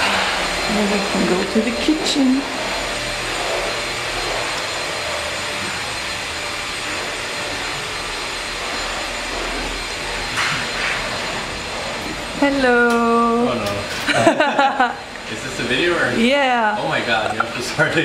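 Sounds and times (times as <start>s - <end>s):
rushing machine noise: 0.0s - 18.0s.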